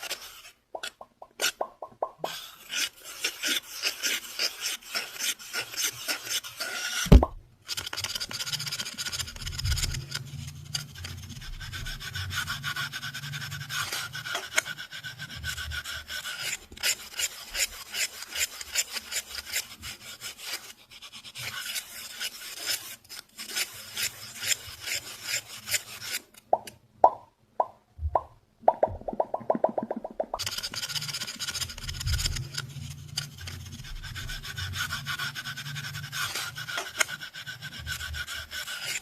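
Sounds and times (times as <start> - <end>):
scratching on a surface: 0.0 - 26.4, 30.4 - 39.0.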